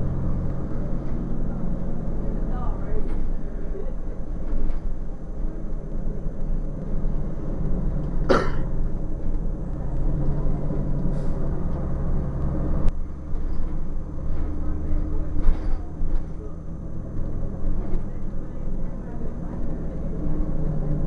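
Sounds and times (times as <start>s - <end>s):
diesel bus engine droning: 0.0s - 21.0s.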